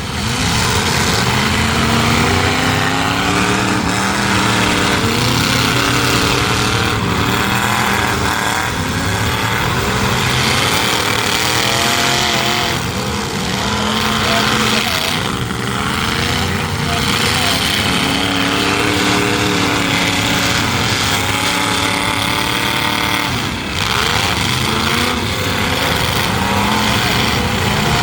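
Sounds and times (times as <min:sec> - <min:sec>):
truck engines revving: 0:00.0 - 0:28.0.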